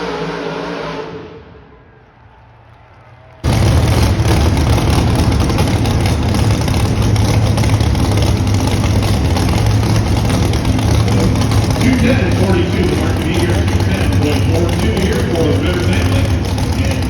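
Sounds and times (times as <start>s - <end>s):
truck engine at full throttle: 0.0s - 1.8s, 3.4s - 17.0s.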